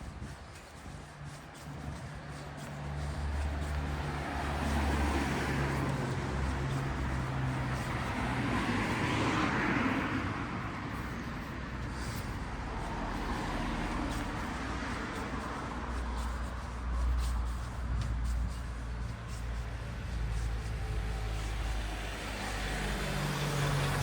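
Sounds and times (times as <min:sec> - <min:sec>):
vehicle passing on street: 0:00.0 - 0:24.0.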